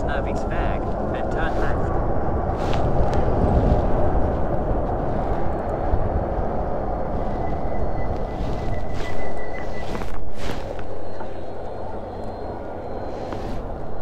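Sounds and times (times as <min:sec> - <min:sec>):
faint high whine: 0:00.0 - 0:14.0
wind on microphone: 0:00.0 - 0:14.0.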